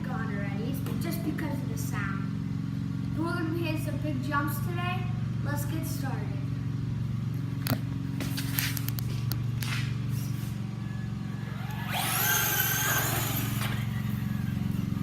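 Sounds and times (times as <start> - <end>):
simulated engine hum: 0.0 - 15.0.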